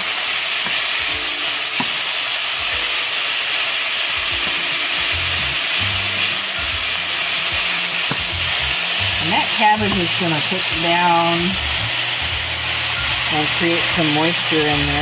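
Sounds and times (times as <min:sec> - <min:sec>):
cabbage sizzling in a pan: 0:00.0 - 0:15.0.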